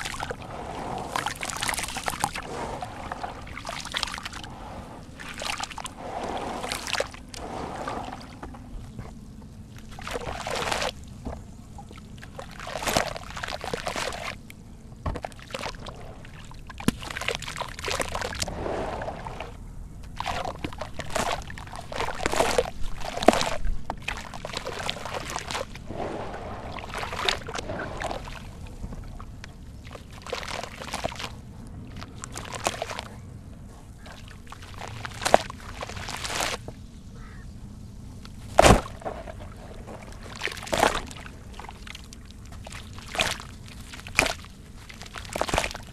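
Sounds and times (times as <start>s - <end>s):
muddy water sloshing in tub: 0.0s - 14.4s, 15.1s - 37.3s, 38.4s - 45.9s.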